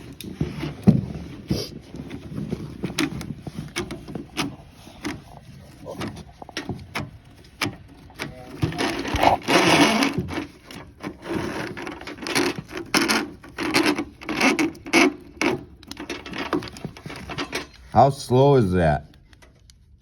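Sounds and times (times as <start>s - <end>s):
drain snake cable scraping: 0.0s - 18.0s.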